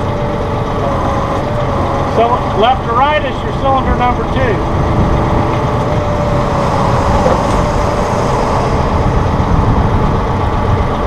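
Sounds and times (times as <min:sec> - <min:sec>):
diesel engine idling: 0:00.0 - 0:11.0
faint hydraulic whine: 0:00.0 - 0:11.0.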